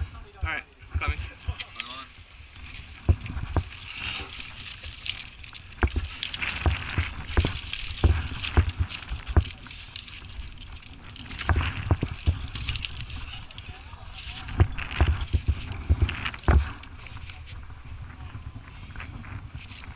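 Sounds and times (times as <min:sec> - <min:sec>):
climbing gear jingling: 0:01.0 - 0:17.7, 0:18.6 - 0:19.9.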